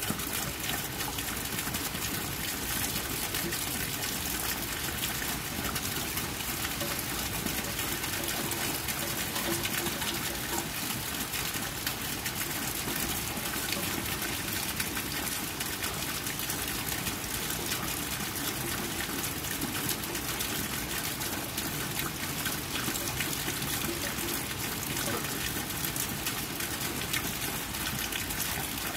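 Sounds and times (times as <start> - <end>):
rain on wet pavement: 0.0 - 28.9.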